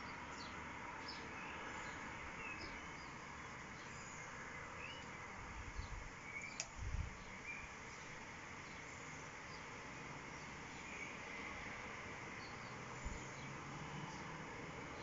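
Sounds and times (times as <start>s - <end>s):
birds chirping: 0.0s - 11.4s, 12.2s - 15.0s
steady outdoor hiss: 0.0s - 15.0s.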